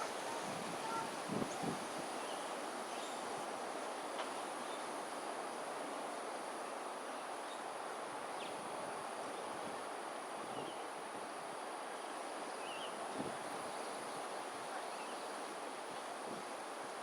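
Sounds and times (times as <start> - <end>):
wind rustling foliage: 0.0 - 17.0.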